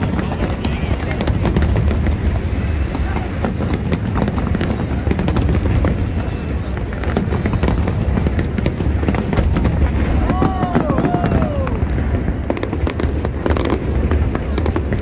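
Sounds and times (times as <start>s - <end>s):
crowd voices: 0.0s - 15.0s
fireworks bangs and crackles: 0.0s - 15.0s.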